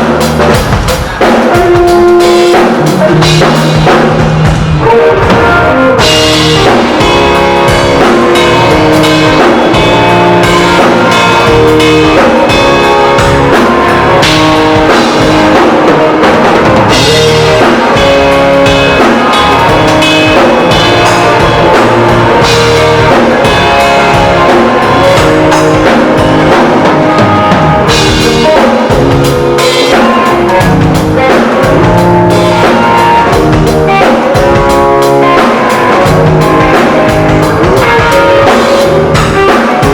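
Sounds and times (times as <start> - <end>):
drum kit steady beat: 0.0 - 39.9
live band playing: 0.0 - 39.9.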